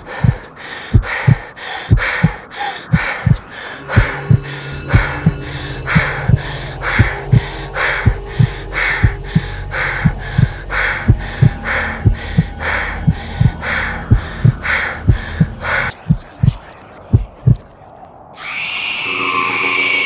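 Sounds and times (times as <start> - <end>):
heavy breathing: 0.0 - 17.6
heartbeat-like thumps: 0.0 - 17.7
low hum: 0.0 - 17.7.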